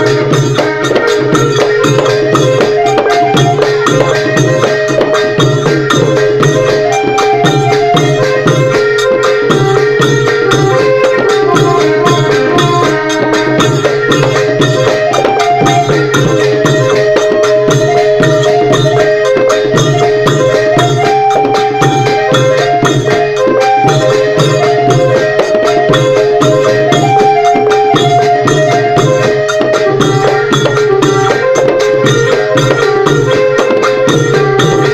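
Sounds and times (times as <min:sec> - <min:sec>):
rapid drum strokes: 0:00.0 - 0:34.9.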